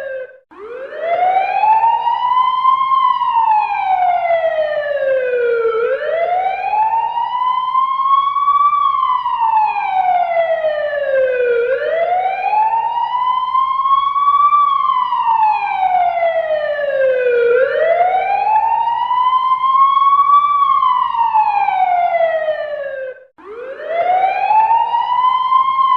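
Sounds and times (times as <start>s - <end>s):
fire engine siren wailing: 0.0s - 25.9s.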